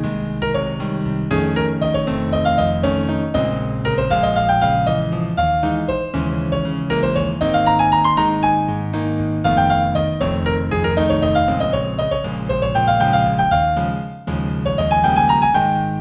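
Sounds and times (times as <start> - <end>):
piano piece: 0.0 - 16.0.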